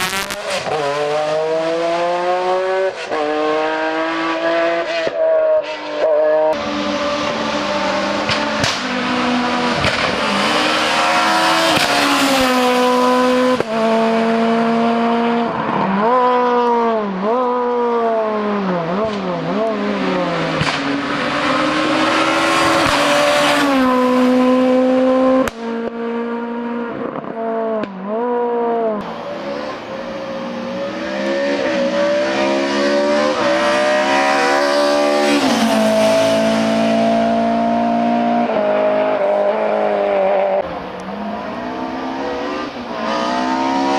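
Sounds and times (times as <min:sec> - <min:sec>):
race car engines at full throttle: 0:00.0 - 0:43.9.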